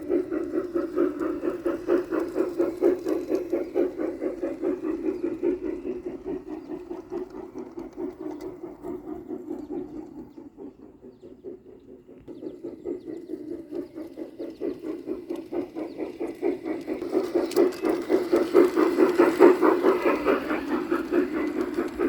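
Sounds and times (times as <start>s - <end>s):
model steam locomotive pulsing: 0.0s - 22.0s.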